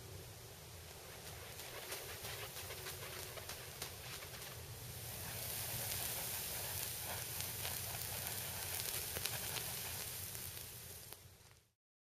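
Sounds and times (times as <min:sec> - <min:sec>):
steel wool sparks sizzling: 0:00.8 - 0:11.8
sharp crackles: 0:00.9 - 0:11.8.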